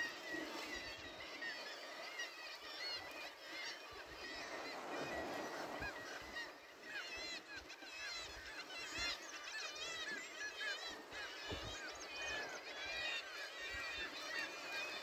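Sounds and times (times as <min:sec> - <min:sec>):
many birds calling: 0:00.0 - 0:15.0
sea noise: 0:00.0 - 0:15.0.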